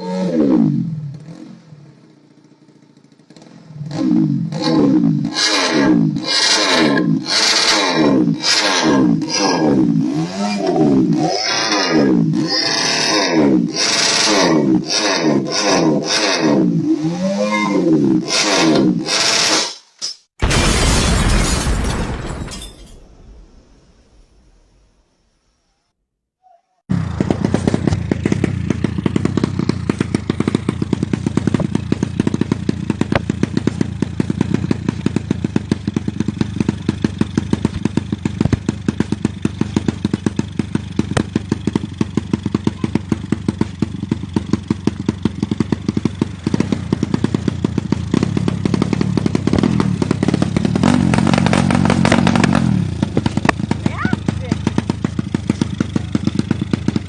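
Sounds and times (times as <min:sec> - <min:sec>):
motorcycle engine running: 0:00.0 - 0:19.5, 0:26.9 - 0:57.0.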